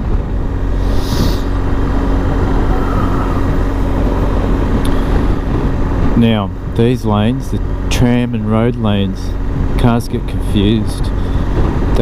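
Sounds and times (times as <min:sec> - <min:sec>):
motorcycle engine hum: 0:00.0 - 0:12.0
road and wind noise: 0:00.0 - 0:12.0.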